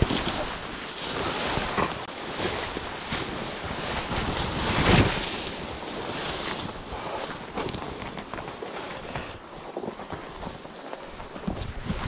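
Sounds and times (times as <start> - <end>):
tall grass rustling: 0.0 - 12.0.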